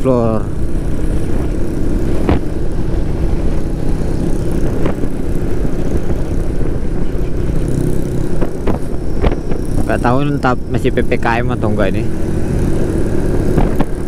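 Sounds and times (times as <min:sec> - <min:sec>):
motorcycle engine drone: 0:00.0 - 0:14.0
wind rumble on microphone: 0:00.3 - 0:14.0.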